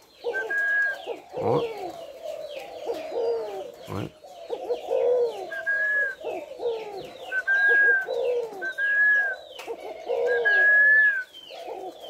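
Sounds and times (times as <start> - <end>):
dove cooing: 0.0 - 12.0
small birds chirping faintly: 0.0 - 12.0.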